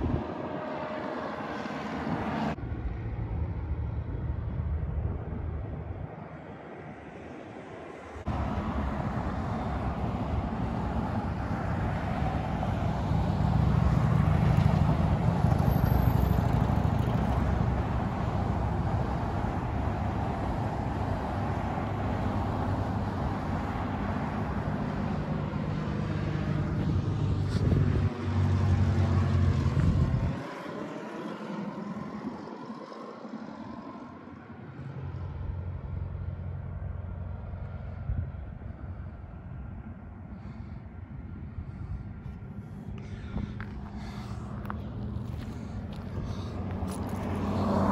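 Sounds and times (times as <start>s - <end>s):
jet aircraft rumble: 0.0s - 47.9s
road traffic passing: 0.0s - 47.9s.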